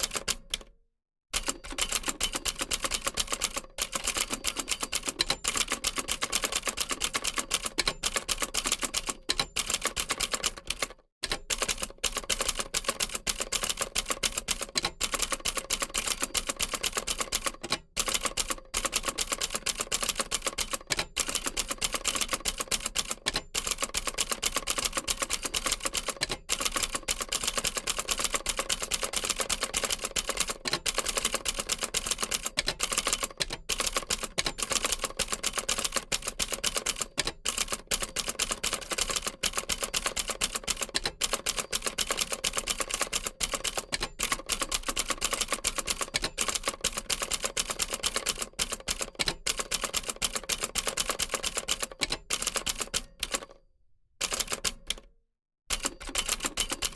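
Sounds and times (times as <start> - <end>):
manual typewriter typing: 0.0 - 0.7, 1.4 - 53.6, 54.2 - 55.1, 55.7 - 56.9.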